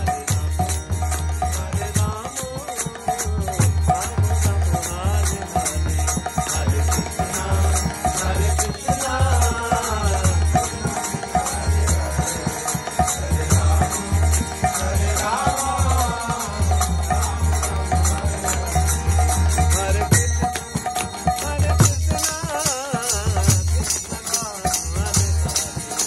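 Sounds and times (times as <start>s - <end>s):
harmonium playing: 0.0s - 26.0s
man singing a chant: 0.0s - 26.0s.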